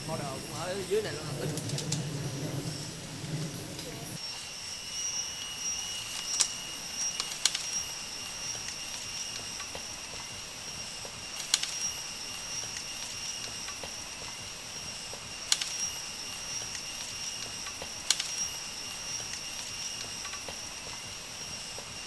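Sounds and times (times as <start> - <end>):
forest insects droning: 0.0 - 22.0.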